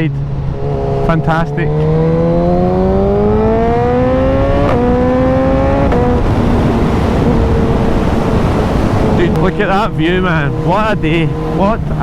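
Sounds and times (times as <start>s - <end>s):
motorcycle engine accelerating: 0.0s - 12.0s
wind rush over microphone: 0.3s - 12.0s.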